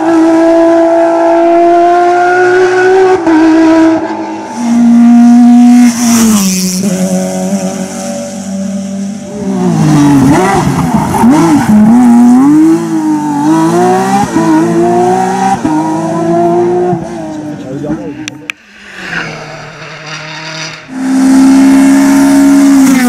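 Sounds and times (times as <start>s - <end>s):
rally car engine at high revs: 0.0s - 23.0s.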